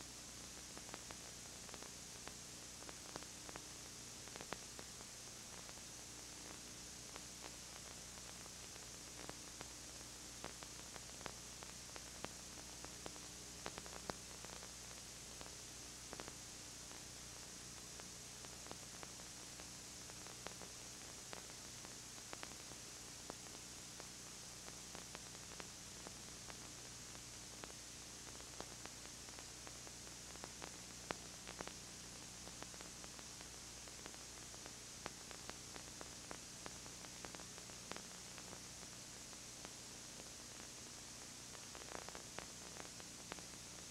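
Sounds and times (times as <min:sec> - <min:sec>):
low mains hum: 0:00.0 - 0:43.9
videotape hiss: 0:00.0 - 0:43.9
faint clicks and crackles: 0:00.2 - 0:43.9.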